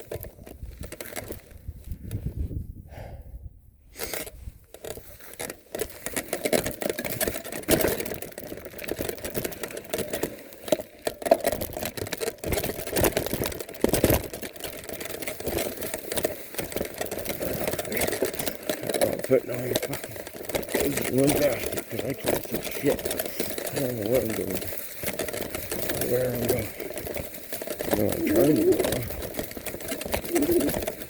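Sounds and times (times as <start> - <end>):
bike rattling through brush: 0.0 - 2.5, 4.0 - 31.0.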